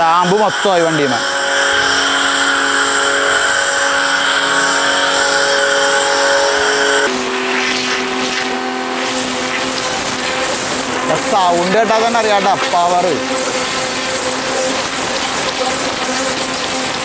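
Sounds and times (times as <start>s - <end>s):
pressure washer motor whining: 0.0s - 17.0s
spray hissing: 0.3s - 17.0s.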